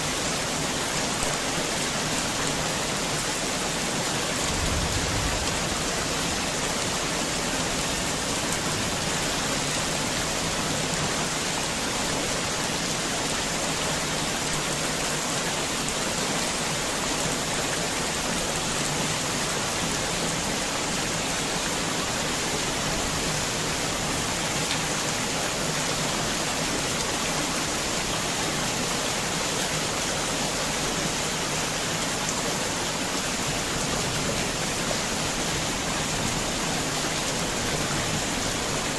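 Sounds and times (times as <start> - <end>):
heavy rain hissing: 0.8 - 38.9.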